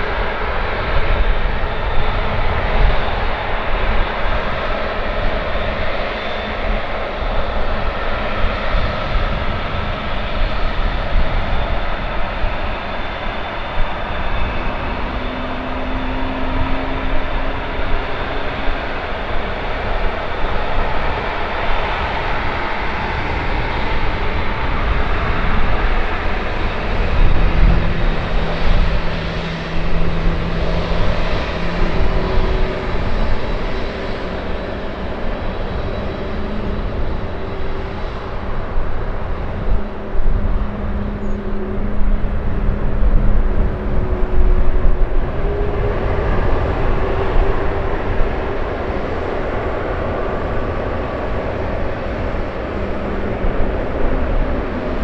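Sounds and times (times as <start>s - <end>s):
jet engines humming: 0.0s - 55.0s
wind rumble on microphone: 0.0s - 55.0s.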